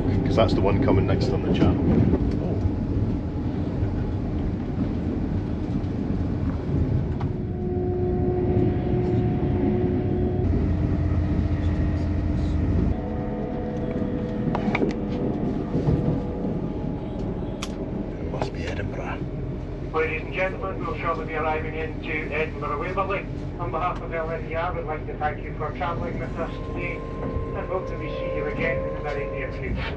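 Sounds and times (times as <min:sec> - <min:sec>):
steady whine: 0:00.0 - 0:29.9
train running rumble: 0:00.0 - 0:29.9.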